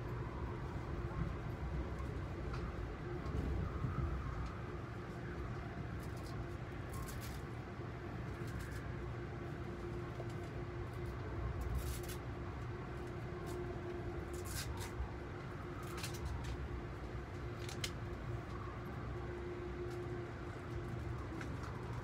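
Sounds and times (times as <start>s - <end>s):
train car ticks and creaks: 0.0s - 22.0s
train running gear rumble: 0.0s - 22.0s.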